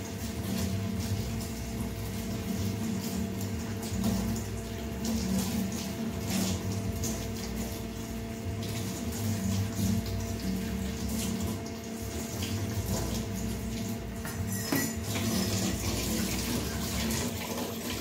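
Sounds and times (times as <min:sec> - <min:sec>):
water splashing in a basin: 0:00.0 - 0:18.0.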